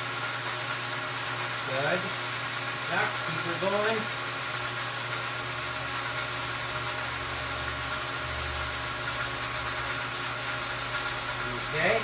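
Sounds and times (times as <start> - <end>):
metal lathe motor hum: 0.0 - 12.0.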